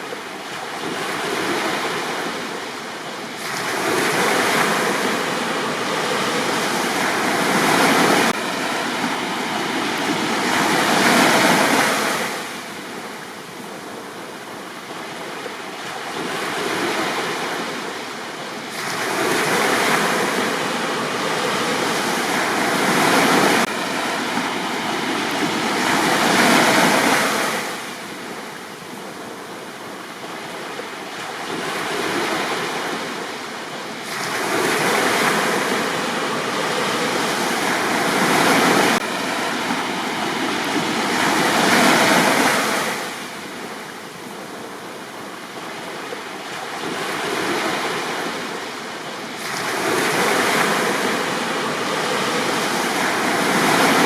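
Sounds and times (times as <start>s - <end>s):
sea surf breaking on beach: 0.0s - 54.0s.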